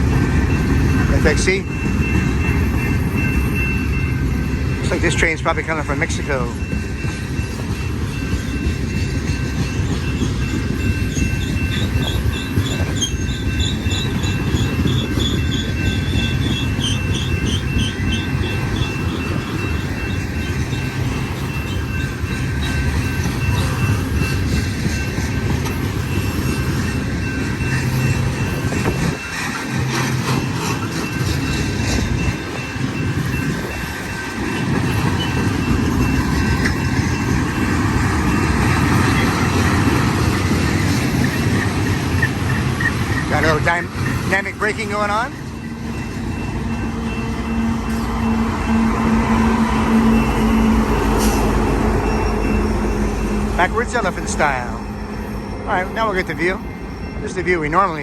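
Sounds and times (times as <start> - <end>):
train wheels rumbling on rail: 0.0 - 58.0
wheels clicking over rail joints: 4.7 - 52.4
high wheel squeal: 6.0 - 58.0.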